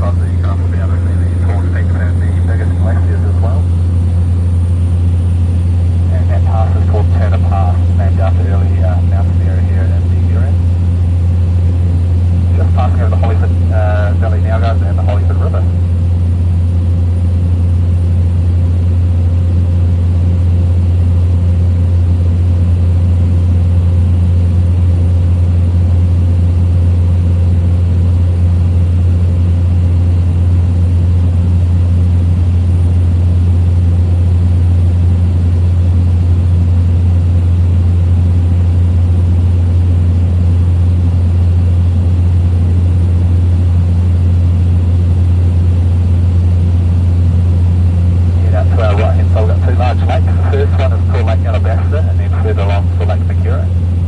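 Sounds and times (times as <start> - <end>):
small plane engine droning: 0.0 - 54.0.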